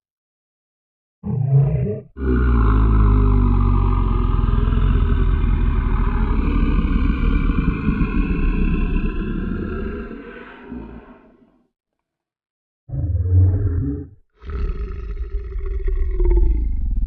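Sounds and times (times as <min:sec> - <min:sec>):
monster roar: 0:01.2 - 0:11.6, 0:12.9 - 0:17.0.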